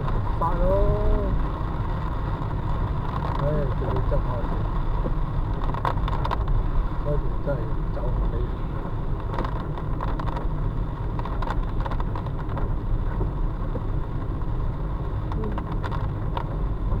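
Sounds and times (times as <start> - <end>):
rain ticking on car: 0.0 - 17.0
road and engine rumble: 0.0 - 17.0.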